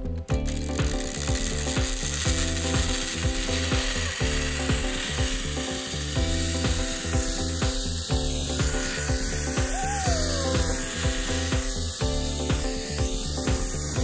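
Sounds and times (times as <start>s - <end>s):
pulley wheels whirring on cable: 0.0s - 14.0s.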